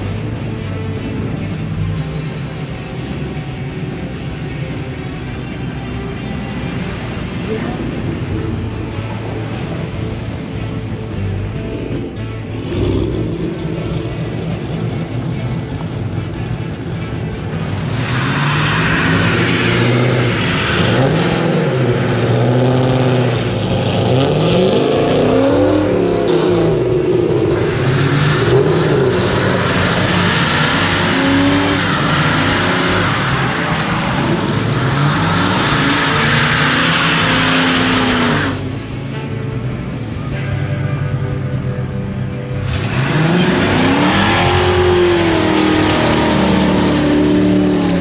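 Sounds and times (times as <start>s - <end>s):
car engines revving: 0.0s - 48.0s.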